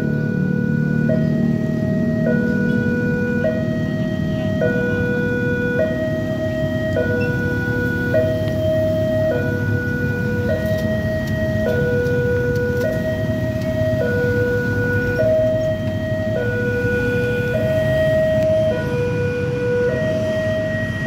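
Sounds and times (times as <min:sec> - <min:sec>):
motorcycles idling: 0:00.0 - 0:21.0
level crossing alarm two tones: 0:00.2 - 0:21.0.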